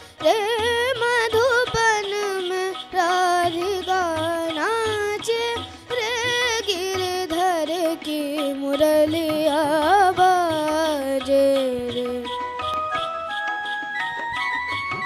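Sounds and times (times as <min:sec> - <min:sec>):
boy singing into microphone: 0:00.0 - 0:12.4.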